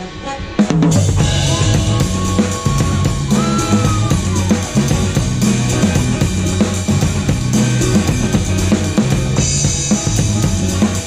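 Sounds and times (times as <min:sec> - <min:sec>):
drum kit groove: 0:00.0 - 0:11.0
bass line: 0:00.8 - 0:11.0.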